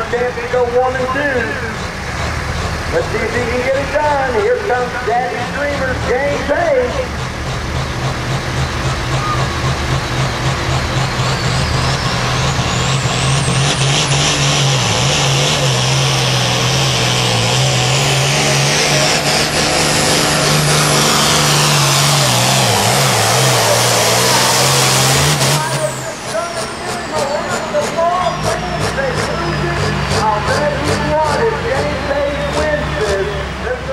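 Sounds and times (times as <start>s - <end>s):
diesel tractor engine under load: 0.0s - 33.9s
high turbo whine: 0.0s - 33.9s.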